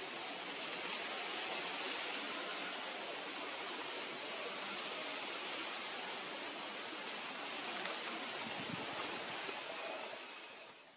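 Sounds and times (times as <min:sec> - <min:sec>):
steady background hiss: 0:00.0 - 0:10.9.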